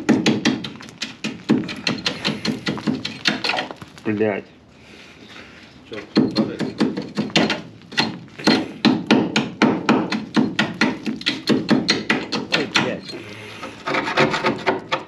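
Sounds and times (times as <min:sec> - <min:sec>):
rough rasping noise: 0:00.0 - 0:04.4, 0:05.5 - 0:15.0.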